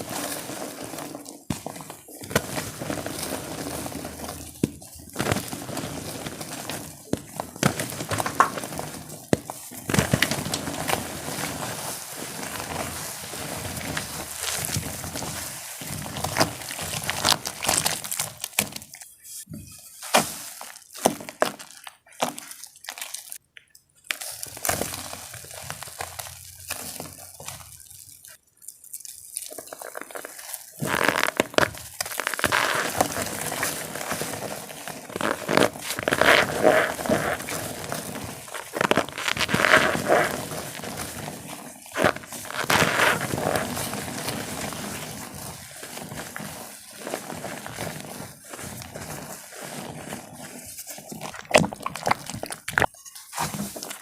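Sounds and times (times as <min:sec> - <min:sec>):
chalk blocks crunching: 0:00.0 - 0:19.0, 0:24.1 - 0:54.0.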